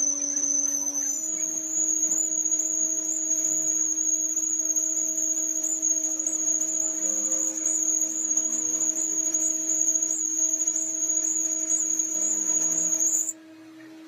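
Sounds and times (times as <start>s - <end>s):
machine high whine: 0.0s - 13.4s
machine low hum: 0.0s - 14.0s.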